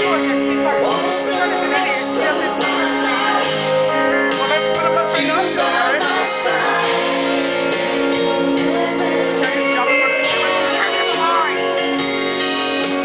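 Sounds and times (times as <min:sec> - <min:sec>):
woman singing: 0:00.0 - 0:07.4, 0:08.4 - 0:11.8
instrumental backing music: 0:00.0 - 0:13.0.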